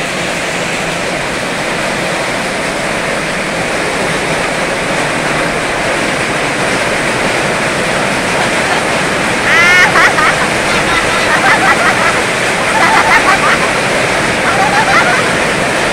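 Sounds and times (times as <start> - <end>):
heavy rain on metal roof: 0.0 - 15.9
rainwater running off roof: 0.0 - 15.9.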